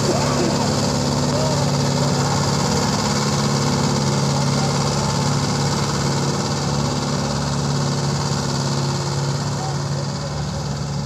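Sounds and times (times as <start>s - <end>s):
rotary tiller in muddy soil: 0.0s - 11.0s
tractor diesel engine under load: 0.0s - 11.0s.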